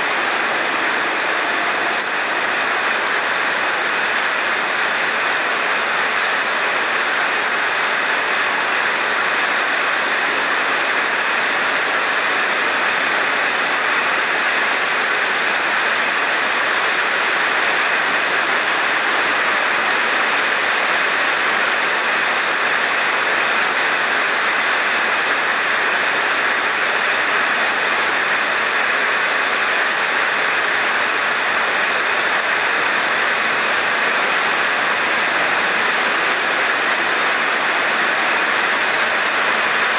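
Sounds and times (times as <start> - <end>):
heavy rain on wet pavement: 0.0 - 39.9.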